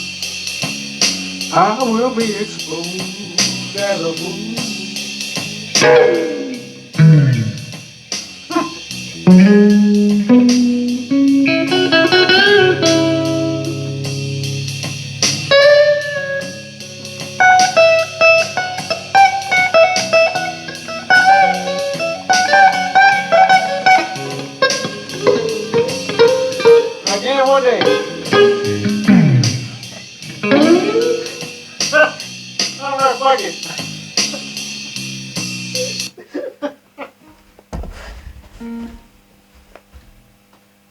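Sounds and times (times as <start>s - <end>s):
electric guitar blues lead: 0.0s - 36.2s.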